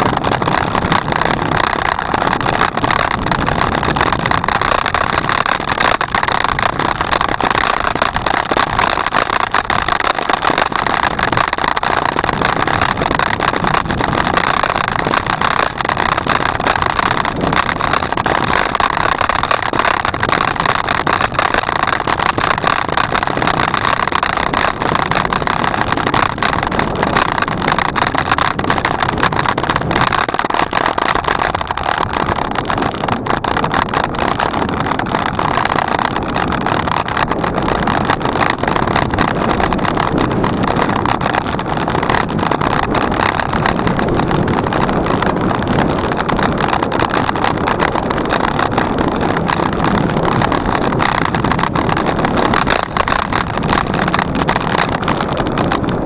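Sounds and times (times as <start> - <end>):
bicycle tyre and road noise: 0.0 - 56.0
wind blowing across microphone: 0.0 - 56.0.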